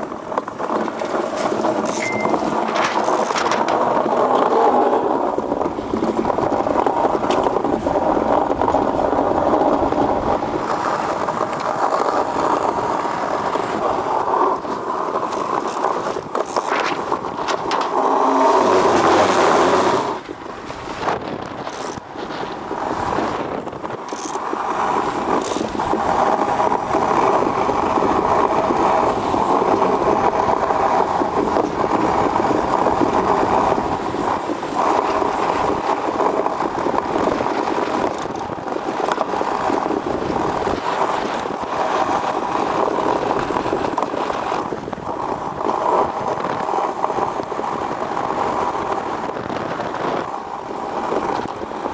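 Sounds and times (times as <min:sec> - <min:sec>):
runners scraping across ice: 0:00.0 - 0:51.9.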